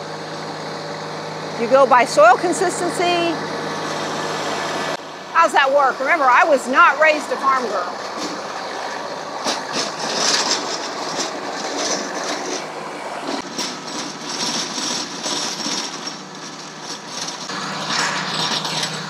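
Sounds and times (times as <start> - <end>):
rotary tiller churning soil: 0.0 - 19.0
tractor diesel engine running: 0.0 - 19.0.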